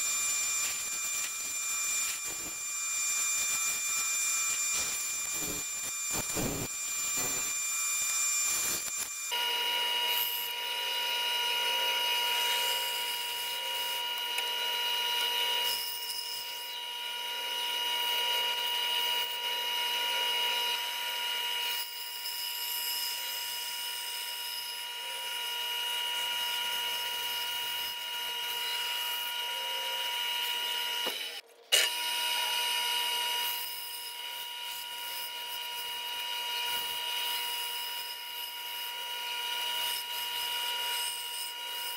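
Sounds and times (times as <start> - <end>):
bandsaw motor whine: 0.0 - 41.9
blade sawing through wood: 0.0 - 41.9.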